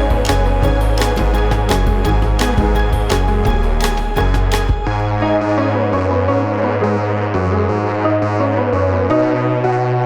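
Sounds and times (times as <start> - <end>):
electronic instrumental music: 0.0 - 10.0.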